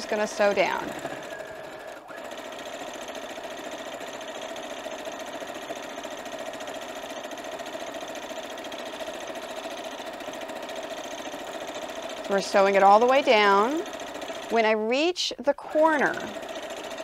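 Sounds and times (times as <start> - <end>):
sewing machine running: 0.0 - 14.8, 15.6 - 17.0.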